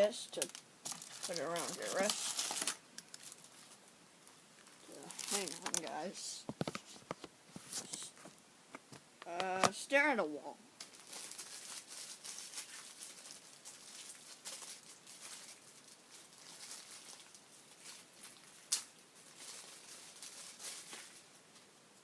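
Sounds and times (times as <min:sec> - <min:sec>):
packaging rustling and scratching: 0:00.3 - 0:03.8, 0:04.6 - 0:08.4, 0:10.8 - 0:21.4.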